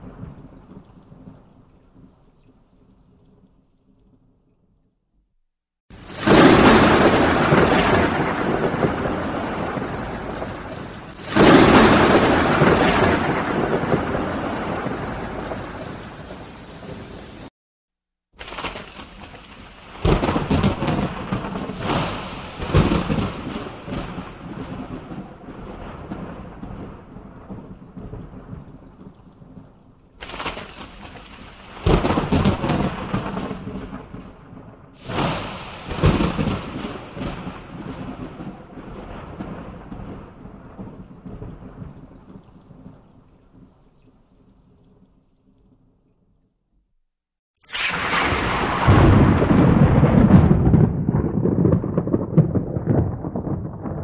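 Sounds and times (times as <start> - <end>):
thunder rolling: 0.0 - 1.6, 5.9 - 17.5, 18.4 - 43.0, 47.7 - 54.0.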